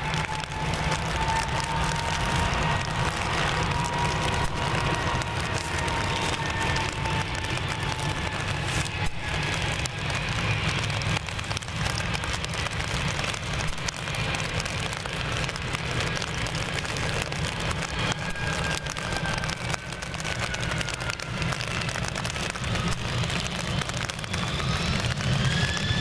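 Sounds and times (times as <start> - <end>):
heavy rain patter: 0.0 - 26.0
jet engines whining: 0.0 - 26.0
low rumble: 0.0 - 26.0.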